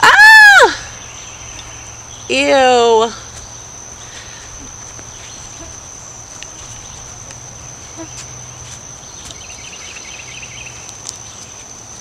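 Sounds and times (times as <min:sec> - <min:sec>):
insects trilling: 0:00.0 - 0:12.0
bird chirping: 0:00.8 - 0:11.7.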